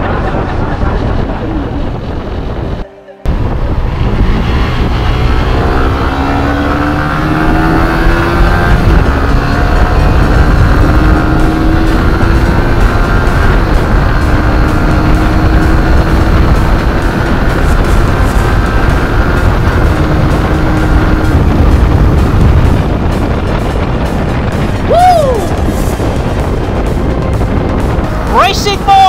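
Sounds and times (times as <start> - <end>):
motorcycle engine accelerating: 0.0 - 28.6
heavy wind: 0.0 - 29.0
road rumble: 0.0 - 29.0.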